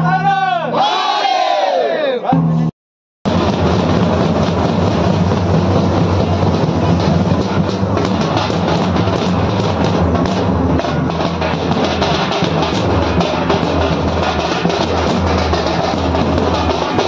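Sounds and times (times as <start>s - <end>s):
dhol drums beaten with sticks: 3.3s - 17.0s.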